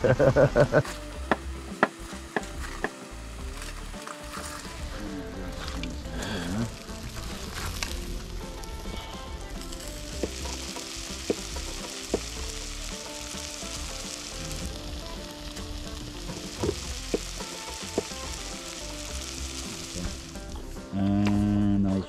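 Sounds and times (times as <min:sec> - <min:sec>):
food sizzling: 0:00.0 - 0:21.9
quiet background music: 0:00.0 - 0:22.0.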